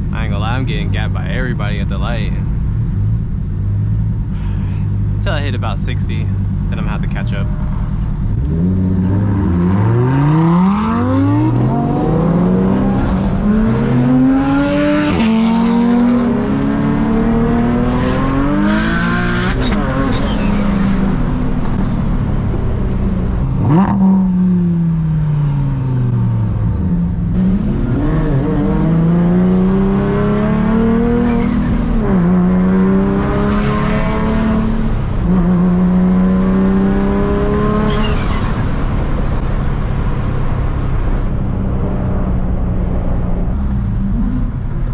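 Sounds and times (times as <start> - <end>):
car engine accelerating through gears: 2.8 - 44.9.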